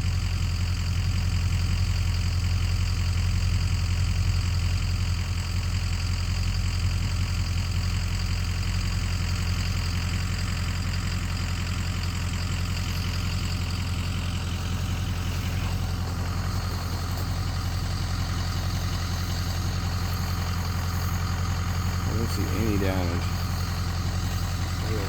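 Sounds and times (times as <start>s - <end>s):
boat engine idling: 0.4s - 25.0s.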